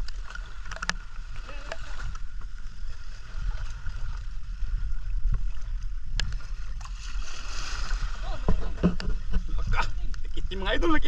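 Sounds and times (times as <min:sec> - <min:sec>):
shallow sea water washing: 0:00.0 - 0:11.0
wind buffeting microphone: 0:00.0 - 0:11.0.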